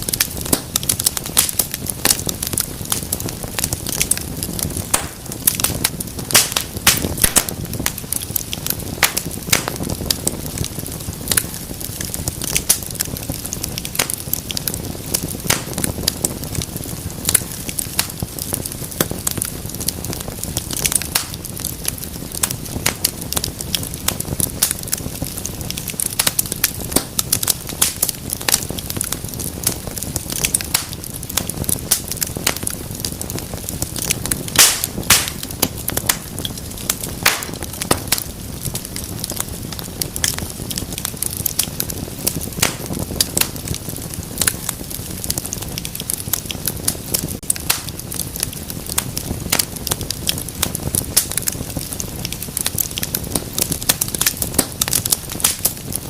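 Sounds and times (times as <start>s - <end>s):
loud snaps of fire: 0.0s - 56.0s
wood fire crackling: 0.0s - 56.0s.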